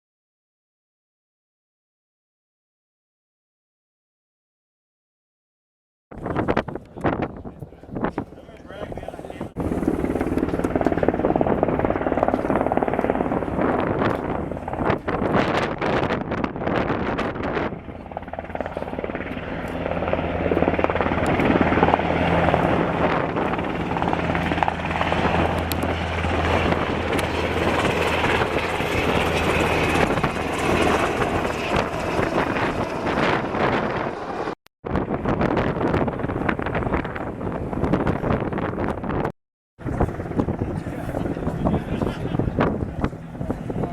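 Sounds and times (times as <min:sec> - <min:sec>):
helicopter rotor noise: 0:06.1 - 0:43.9.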